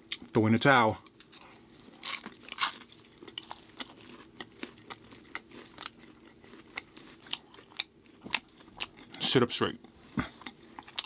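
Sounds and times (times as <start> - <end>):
person chewing food: 1.0 - 11.0.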